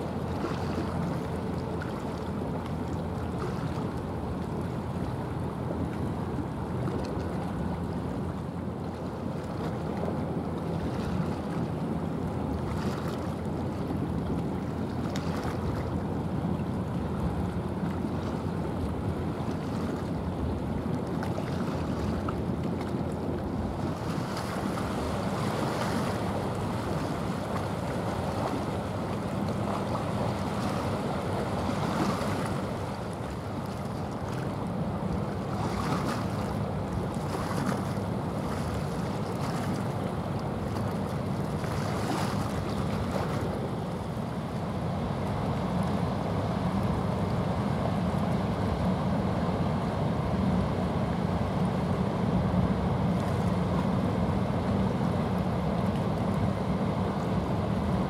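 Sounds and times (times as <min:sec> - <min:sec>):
low steady rumble: 0:00.0 - 0:58.0
water splashing along boat hull: 0:00.0 - 0:58.0.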